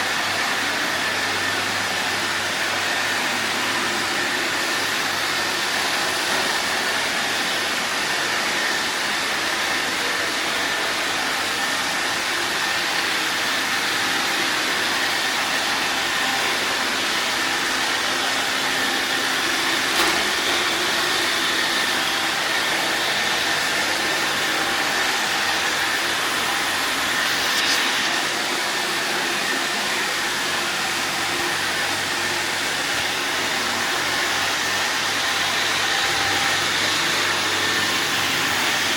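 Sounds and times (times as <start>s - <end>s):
robot vacuum cleaner humming: 0.0s - 38.9s.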